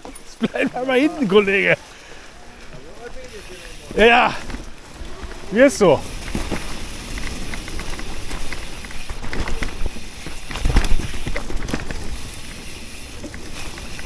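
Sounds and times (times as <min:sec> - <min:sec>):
bike rattling and clicking: 0:00.0 - 0:14.0
tyres rolling through leaves: 0:00.0 - 0:14.0.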